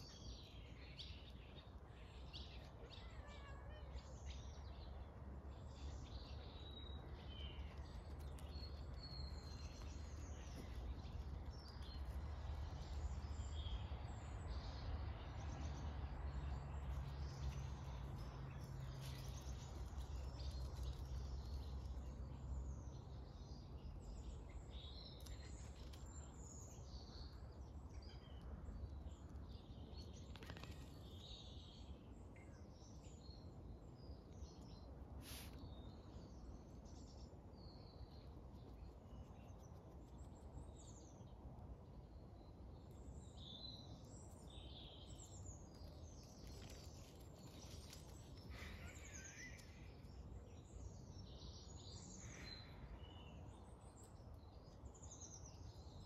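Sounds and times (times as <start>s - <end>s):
low outdoor rumble: 0.0s - 56.0s
songbirds chirping: 0.0s - 56.0s.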